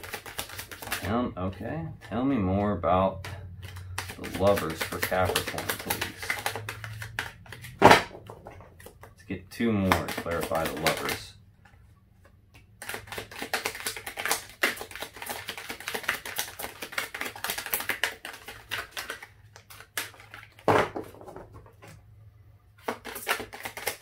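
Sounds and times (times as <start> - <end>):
cards being shuffled: 0.0 - 1.2, 1.9 - 9.2, 9.8 - 22.0, 22.8 - 24.0.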